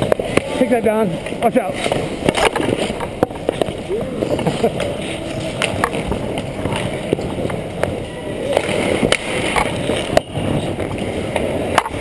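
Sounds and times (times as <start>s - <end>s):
players' voices: 0.0s - 11.8s
hockey sticks and puck clacking: 0.0s - 12.0s
skates scraping on ice: 0.0s - 12.0s.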